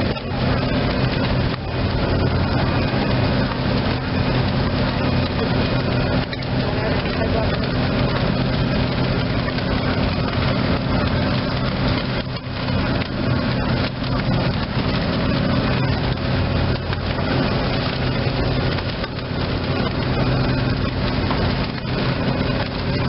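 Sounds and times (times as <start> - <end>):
ferry engines droning: 0.0 - 23.0
rushing wake water: 0.0 - 23.0.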